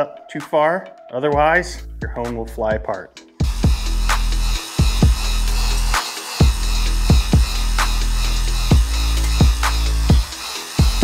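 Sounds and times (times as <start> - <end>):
electronic music with bass and kick: 1.3 - 11.0.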